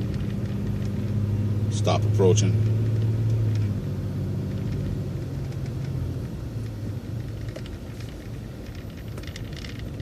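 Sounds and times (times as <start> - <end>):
bus engine humming: 0.0 - 10.0.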